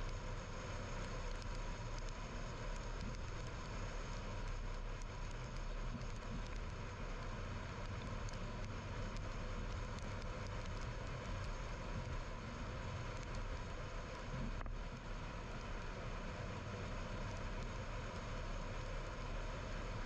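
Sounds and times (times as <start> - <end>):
low engine hum: 0.0 - 20.0
road and tyre noise: 0.0 - 20.0.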